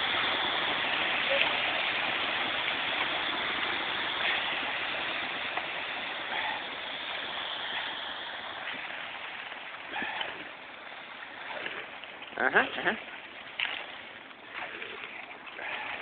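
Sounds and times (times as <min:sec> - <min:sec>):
wet concrete pouring: 0:00.0 - 0:16.0.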